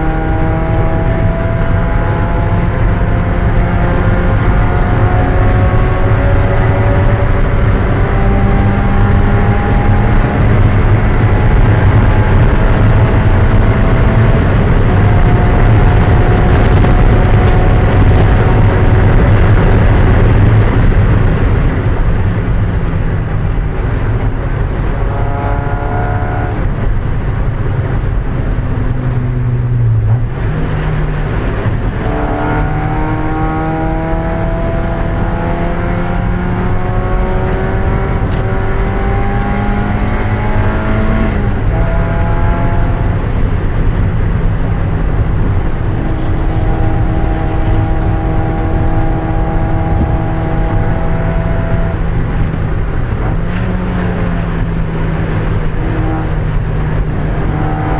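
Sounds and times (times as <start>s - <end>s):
car engine running hard: 0.0s - 57.9s
road and wet tyre noise: 0.0s - 57.9s.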